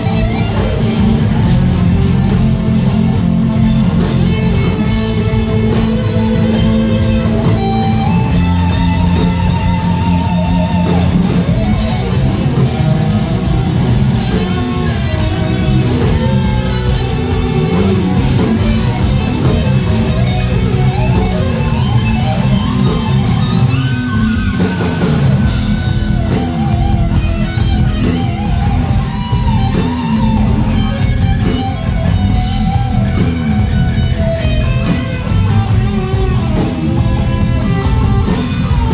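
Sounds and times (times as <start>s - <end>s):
bass: 0.0s - 38.9s
electric guitar with bent notes: 0.0s - 38.9s
steady drum beat: 0.0s - 38.9s.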